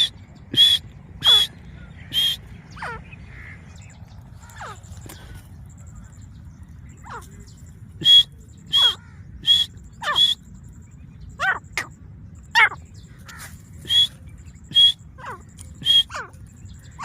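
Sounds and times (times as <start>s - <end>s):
francolin calling: 0.0s - 17.0s.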